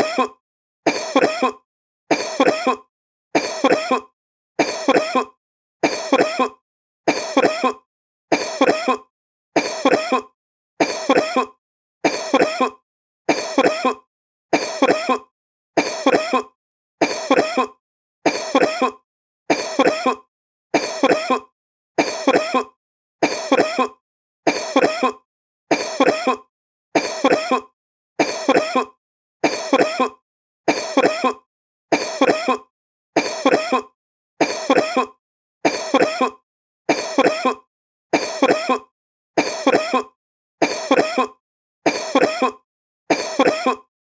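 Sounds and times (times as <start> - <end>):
man coughing: 0.0 - 1.6, 2.2 - 31.4, 32.0 - 37.6, 38.2 - 43.9.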